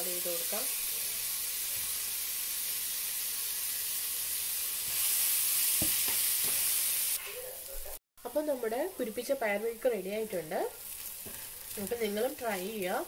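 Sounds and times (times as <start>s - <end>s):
beans sizzling in a frying pan: 0.0s - 13.0s.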